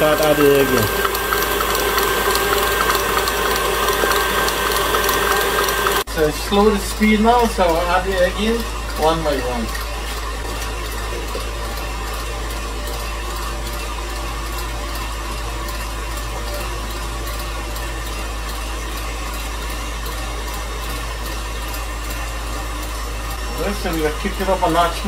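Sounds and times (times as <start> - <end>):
stand mixer running: 0.0 - 25.0.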